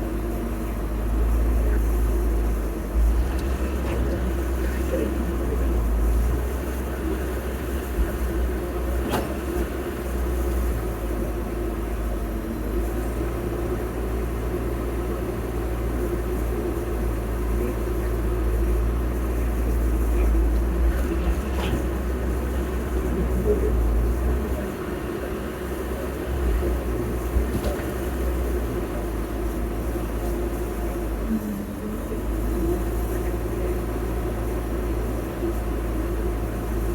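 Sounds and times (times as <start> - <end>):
heavy machinery engine rumble: 0.0 - 36.9.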